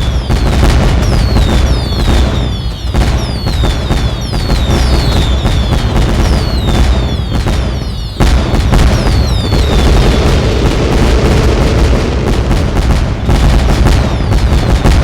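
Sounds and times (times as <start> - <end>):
falling whistles: 0.0 - 15.0
fireworks bangs and crackles: 0.0 - 15.0.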